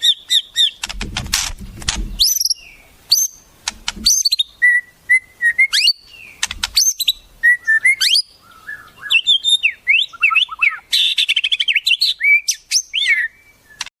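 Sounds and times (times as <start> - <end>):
songbird whistling song: 0.0 - 0.8, 2.1 - 13.9.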